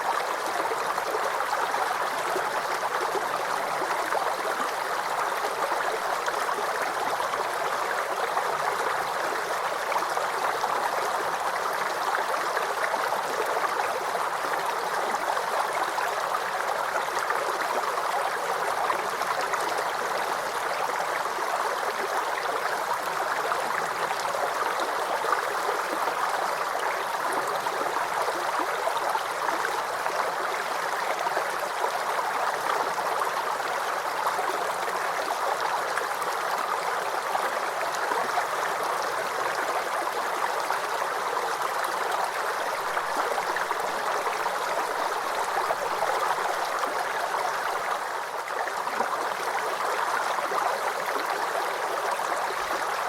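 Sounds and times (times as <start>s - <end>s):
creek babbling over stones: 0.0s - 53.0s.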